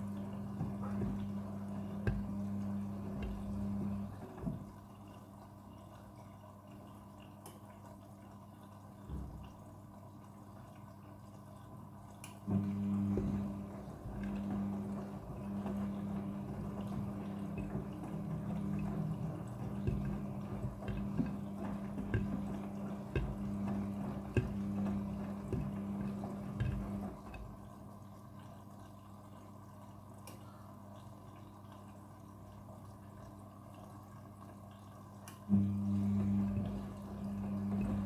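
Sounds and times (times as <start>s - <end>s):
washing machine hum: 0.0s - 38.0s
water sloshing and dripping: 0.0s - 38.0s.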